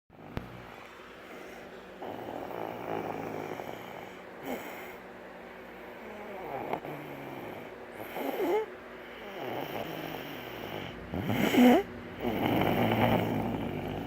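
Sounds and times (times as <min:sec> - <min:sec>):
person snoring: 0:01.3 - 0:05.0, 0:06.0 - 0:14.0.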